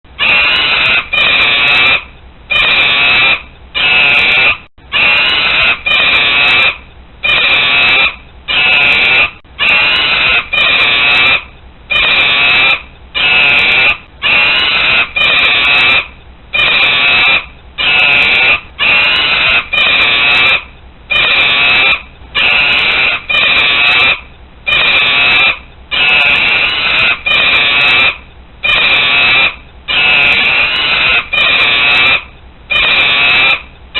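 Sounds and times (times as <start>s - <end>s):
monkey screaming: 0.2s - 33.7s.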